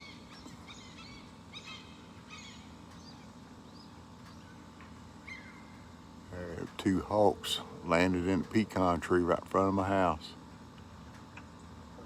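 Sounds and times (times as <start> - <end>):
birds chirping: 0.0 - 11.8
steady low hum: 0.0 - 12.0.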